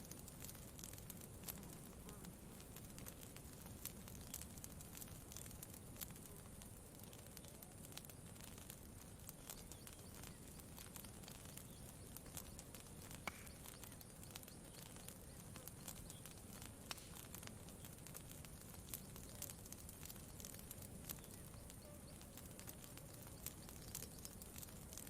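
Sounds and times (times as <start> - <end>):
campfire crackling: 0.0 - 25.0
low steady hiss: 0.0 - 25.0.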